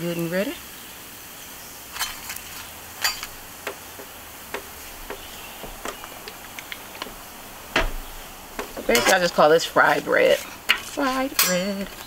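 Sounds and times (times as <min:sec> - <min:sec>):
tortillas sizzling in oil: 0:00.0 - 0:12.0
oil ticking and popping: 0:01.8 - 0:12.0.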